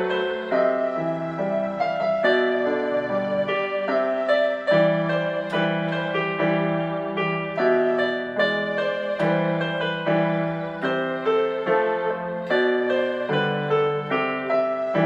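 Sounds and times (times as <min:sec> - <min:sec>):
solo piano ballad: 0:00.0 - 0:15.0.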